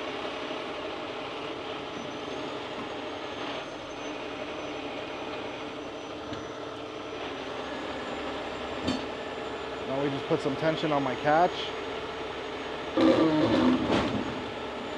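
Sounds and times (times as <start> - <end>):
diesel truck engine under load: 0.0 - 14.9
high-pitched winch whine: 0.0 - 14.9.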